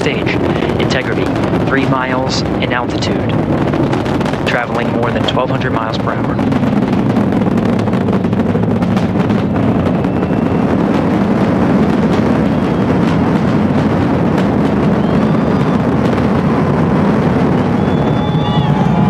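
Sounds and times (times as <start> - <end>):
rocket roaring with crackle: 0.0 - 19.0.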